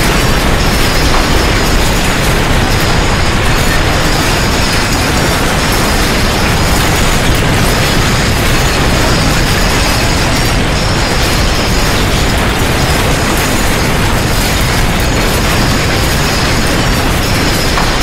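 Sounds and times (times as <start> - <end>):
earthquake rumbling: 0.0 - 18.0.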